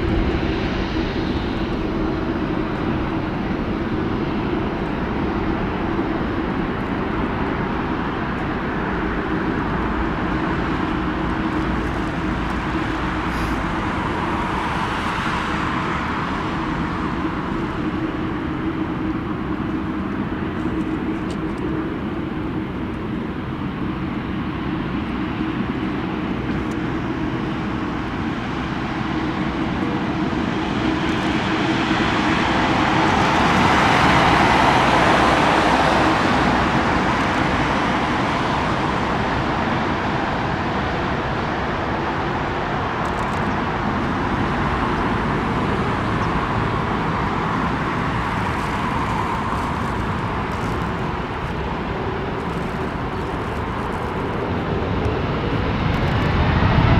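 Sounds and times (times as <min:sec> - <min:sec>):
jet airliner taking off: 0:00.0 - 0:56.9.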